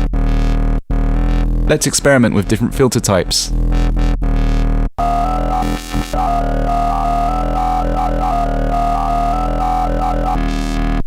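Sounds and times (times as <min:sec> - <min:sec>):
synthesized bass note: 0:00.0 - 0:11.0.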